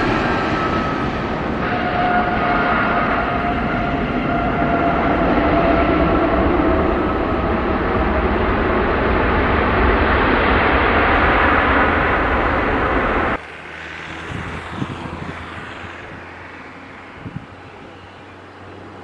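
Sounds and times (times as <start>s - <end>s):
jet engine whine: 0.0s - 19.0s
jet engines rushing: 0.0s - 19.0s.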